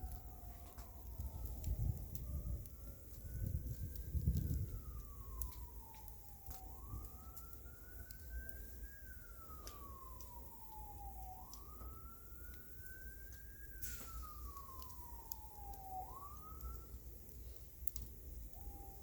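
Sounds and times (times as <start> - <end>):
bonfire crackling pops: 0.0 - 19.0
siren wailing: 0.0 - 19.0.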